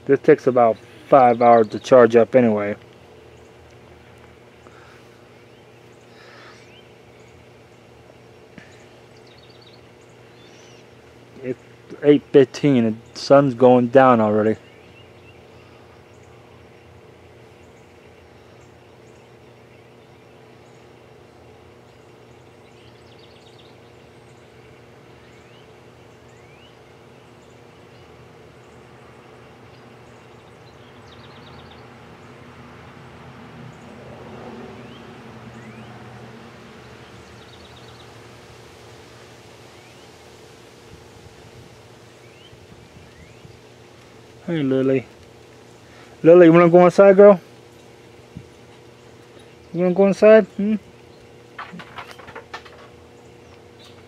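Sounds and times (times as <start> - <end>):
birds chirping and trilling: 0.0 - 54.0
steady low hum: 0.0 - 54.0.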